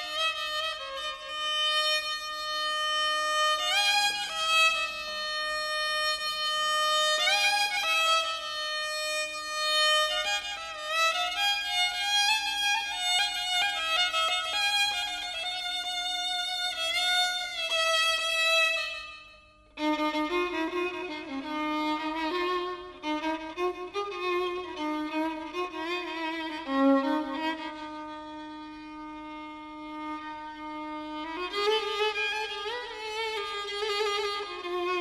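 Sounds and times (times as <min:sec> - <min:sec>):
solo violin melody: 0:00.0 - 0:35.0.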